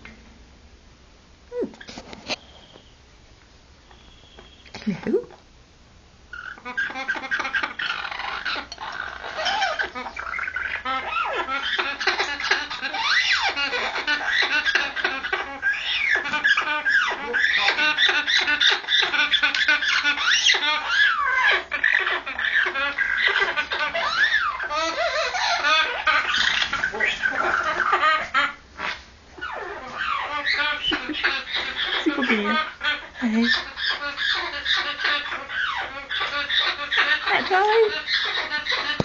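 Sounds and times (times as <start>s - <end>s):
parrot squawking and whistling: 6.3s - 39.0s.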